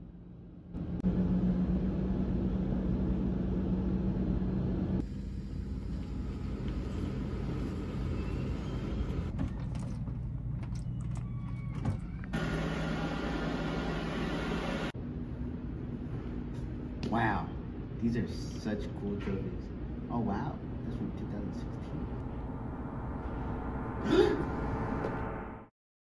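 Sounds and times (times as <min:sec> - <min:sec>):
low mechanical hum: 0:00.0 - 0:25.7.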